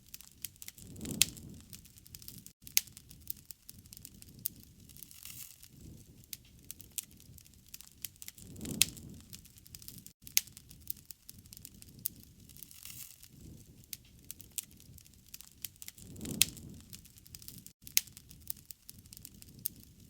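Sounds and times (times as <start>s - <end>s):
wood fire crackling and popping: 0.0s - 20.0s
low rushing of flames: 0.3s - 20.0s.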